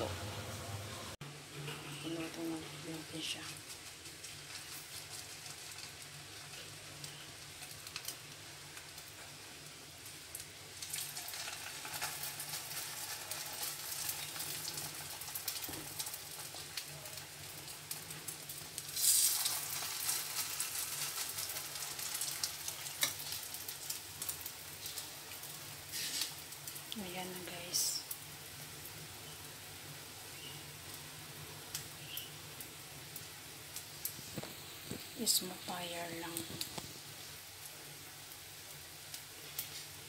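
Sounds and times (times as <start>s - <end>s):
oil sizzling in a pan: 0.0s - 40.0s.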